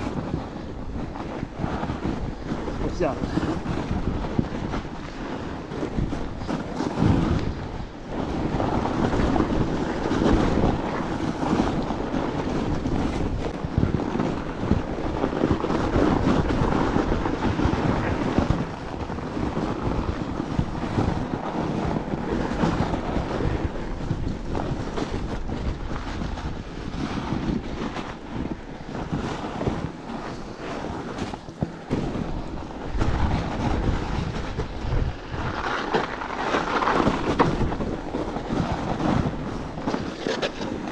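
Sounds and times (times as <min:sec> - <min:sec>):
bike knocking and rattling: 0:00.0 - 0:40.9
tyres rolling on packed snow: 0:00.0 - 0:40.9
wind buffeting microphone: 0:00.0 - 0:40.9.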